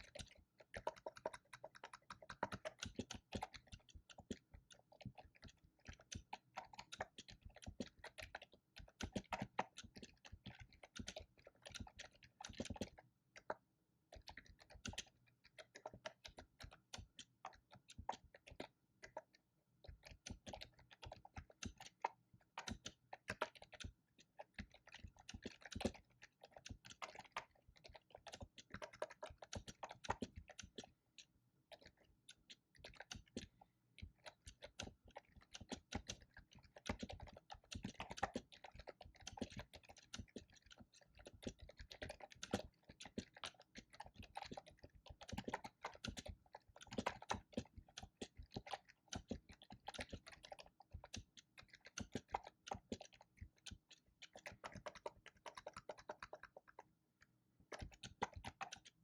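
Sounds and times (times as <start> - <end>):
fast typing on computer keyboard: 0.0 - 56.9, 57.6 - 59.0.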